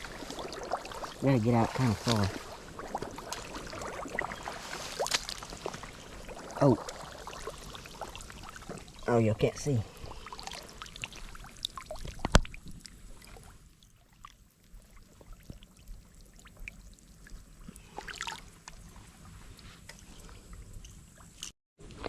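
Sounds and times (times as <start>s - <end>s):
water splashing around wading person: 0.0s - 9.1s, 9.9s - 20.2s.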